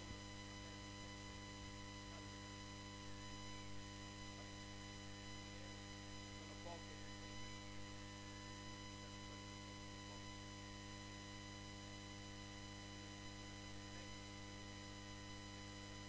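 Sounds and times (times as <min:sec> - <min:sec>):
electrical hum and buzz: 0:00.0 - 0:16.0
faint high whine: 0:00.0 - 0:16.0.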